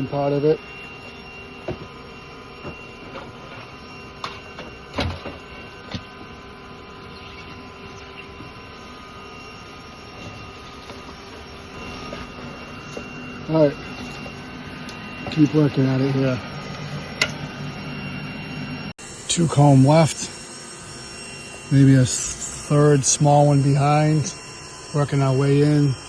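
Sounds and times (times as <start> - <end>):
vacuum motor hum: 0.0 - 26.0.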